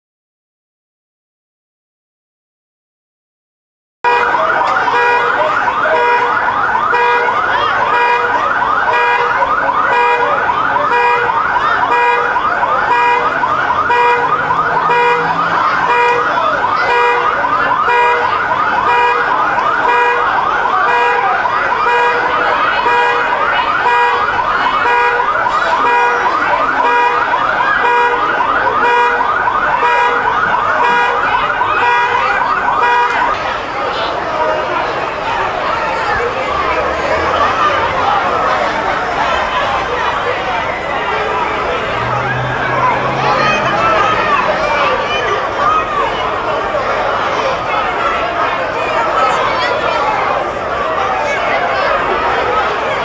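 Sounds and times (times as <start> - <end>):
police siren yelping: 4.1 - 53.0.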